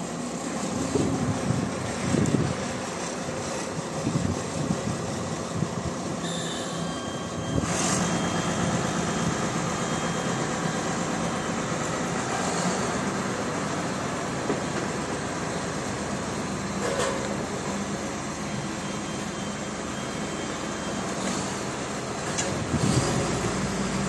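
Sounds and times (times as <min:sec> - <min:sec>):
road roller diesel engine: 0:00.0 - 0:24.0.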